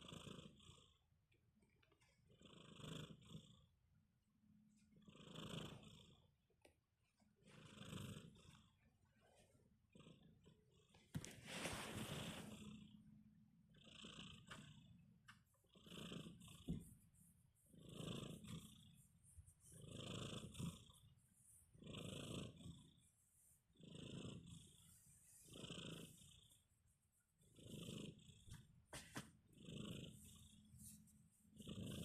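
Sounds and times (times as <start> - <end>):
kitten snoring softly: 0.0 - 1.1, 1.8 - 3.8, 4.8 - 6.7, 7.3 - 32.0.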